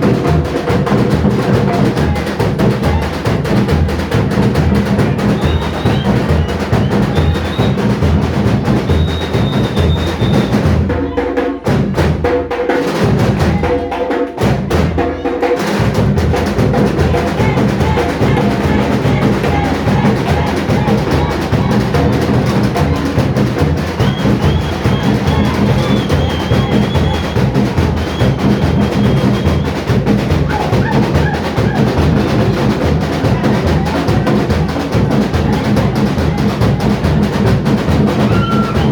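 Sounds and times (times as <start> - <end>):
samba drumming ensemble: 0.0 - 38.9.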